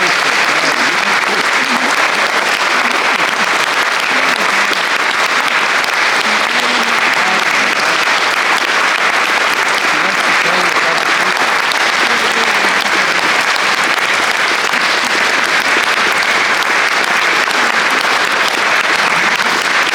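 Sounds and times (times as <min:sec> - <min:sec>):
audience applauding: 0:00.0 - 0:19.9
faint voices: 0:00.0 - 0:19.9.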